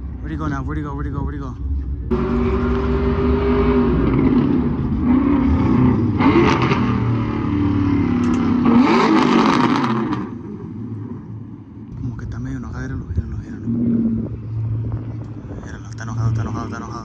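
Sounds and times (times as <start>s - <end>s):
car engine revving: 1.7s - 17.0s.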